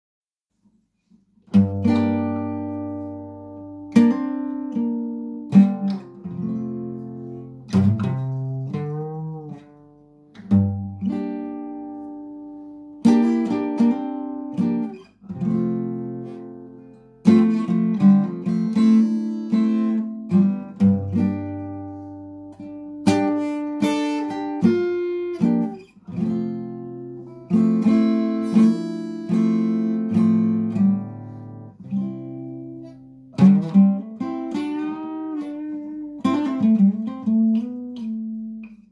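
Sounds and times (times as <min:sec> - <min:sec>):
solo acoustic guitar: 0:00.6 - 0:38.9.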